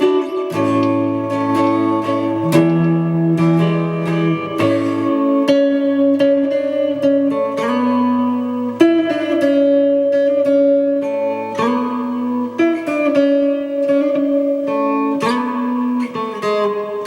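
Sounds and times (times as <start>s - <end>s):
electric guitar notes and chords: 0.0s - 17.0s.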